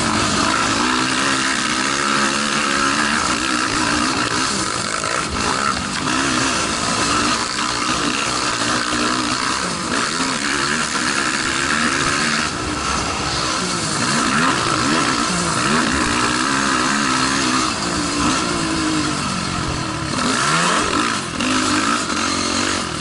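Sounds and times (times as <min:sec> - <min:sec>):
quad engine revving: 0:00.0 - 0:23.0.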